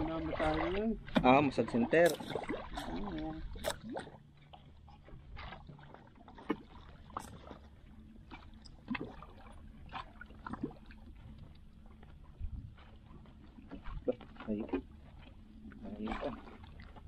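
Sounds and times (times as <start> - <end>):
small splashes and knocks: 0.0 - 17.0
water lapping against boat hull: 0.0 - 17.0.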